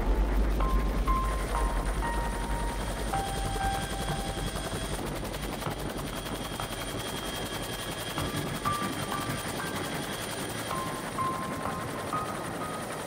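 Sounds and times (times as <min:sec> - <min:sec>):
helicopter rotor chopping drone: 0:00.0 - 0:13.0.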